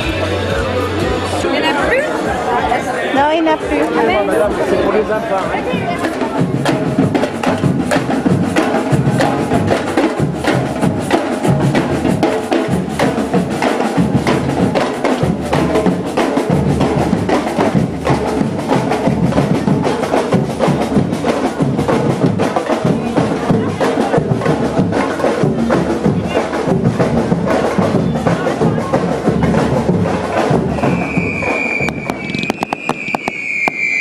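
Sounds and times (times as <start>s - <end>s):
samba drum group: 0.0s - 34.0s
sharp clicking percussion: 6.0s - 34.0s.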